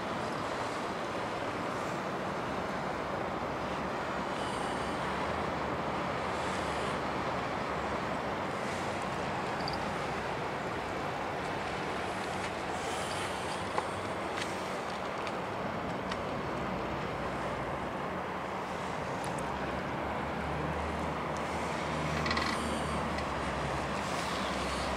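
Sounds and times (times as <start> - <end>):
moving water: 0.0 - 24.9
traffic noise: 0.0 - 24.9.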